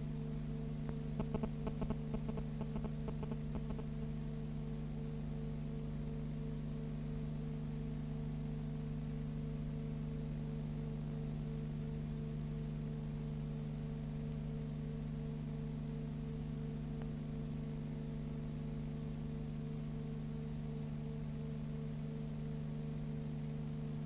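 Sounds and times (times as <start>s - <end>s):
low electrical hum with hiss: 0.0s - 24.0s.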